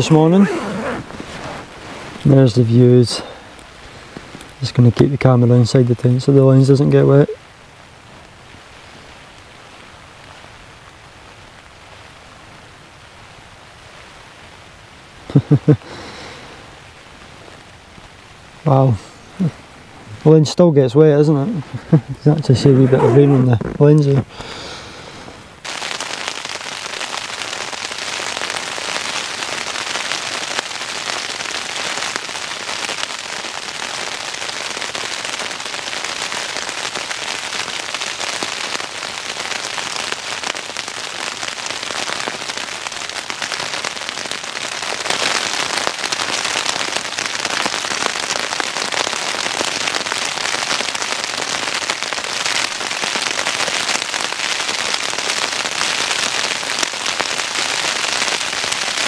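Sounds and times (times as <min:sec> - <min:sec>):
heavy rain on tent fabric: 0:00.0 - 0:59.0.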